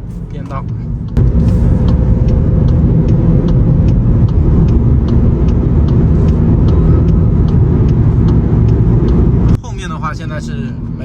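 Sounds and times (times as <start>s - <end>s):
car road and engine rumble: 0.0s - 11.0s
turn signal ticking: 0.0s - 11.0s.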